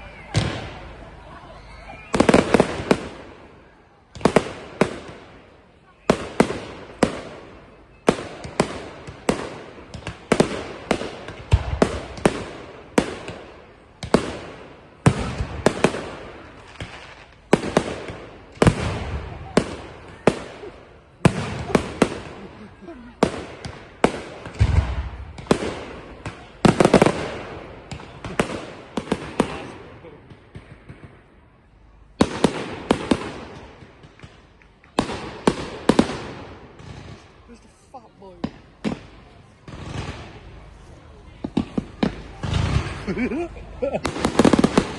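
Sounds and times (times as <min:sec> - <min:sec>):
fireworks banging: 0:00.0 - 0:44.9.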